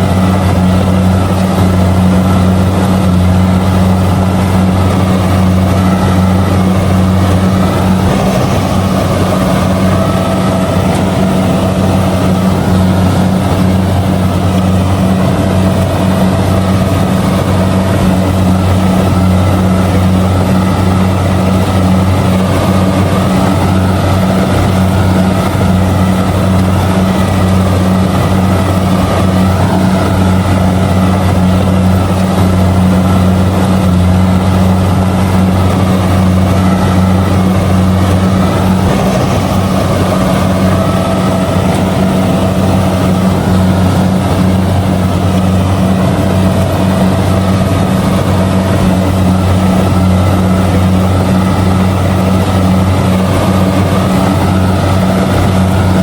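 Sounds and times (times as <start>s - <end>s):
combine harvester diesel drone: 0.0s - 56.0s.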